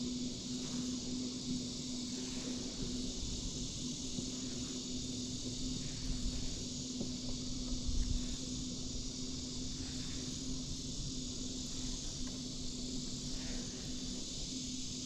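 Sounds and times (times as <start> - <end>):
constant low hum: 0.0 - 15.0
crickets chirping: 0.0 - 15.0.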